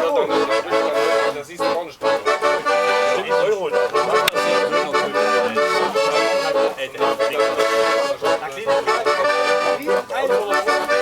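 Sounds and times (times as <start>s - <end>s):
accordion playing: 0.0s - 11.0s.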